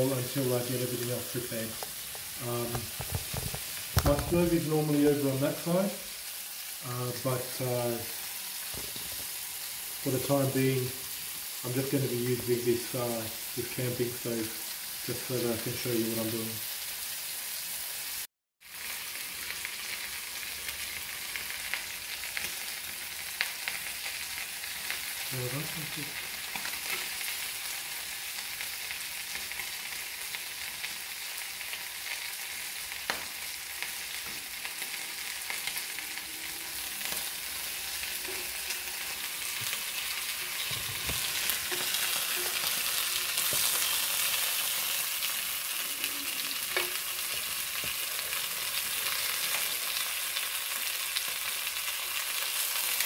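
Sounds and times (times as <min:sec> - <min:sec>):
chicken and onions sizzling: 0:00.0 - 0:53.0.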